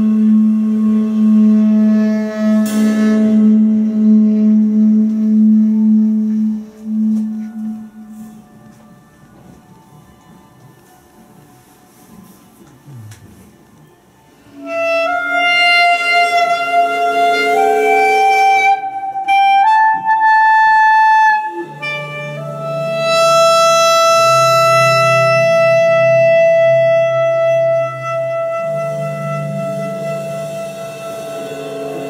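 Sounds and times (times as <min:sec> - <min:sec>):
clarinet playing held notes: 0:00.0 - 0:09.6, 0:14.4 - 0:32.0
low sustained drone: 0:00.0 - 0:10.2, 0:14.3 - 0:19.6, 0:21.0 - 0:32.0.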